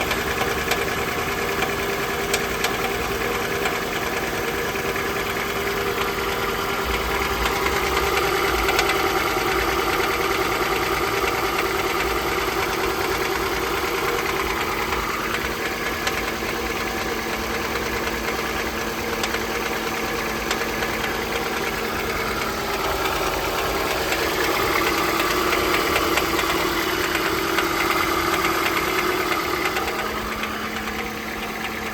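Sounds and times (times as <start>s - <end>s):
engine running with a knock: 0.0s - 31.9s.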